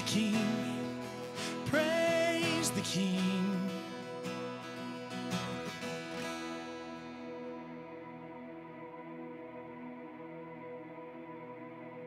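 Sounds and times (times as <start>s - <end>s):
soft ambient worship music: 0.0s - 12.0s.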